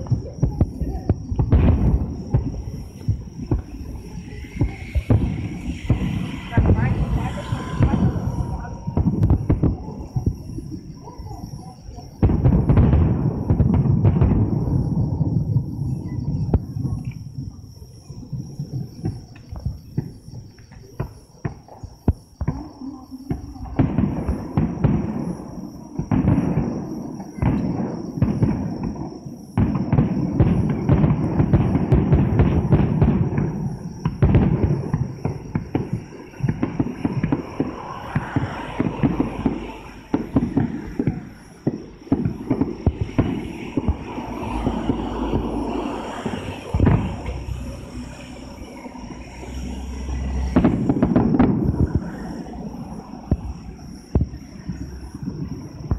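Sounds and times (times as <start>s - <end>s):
fireworks bangs and crackling: 0.0s - 55.9s.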